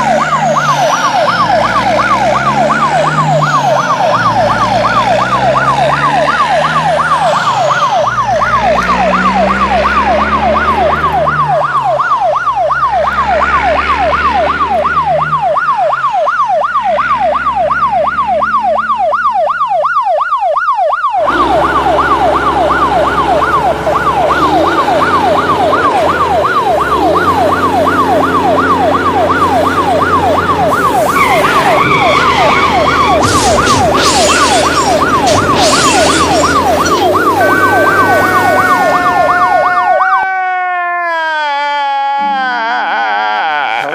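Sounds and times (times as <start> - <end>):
ambulance siren yelping: 0.0 - 43.9.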